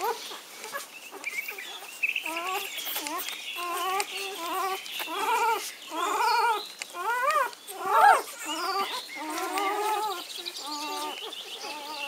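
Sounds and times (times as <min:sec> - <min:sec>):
puppy squealing: 0:00.0 - 0:12.0.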